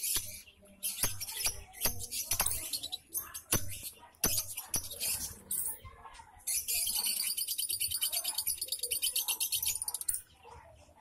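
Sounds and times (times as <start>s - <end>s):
lovebirds twittering: 0.0s - 11.0s.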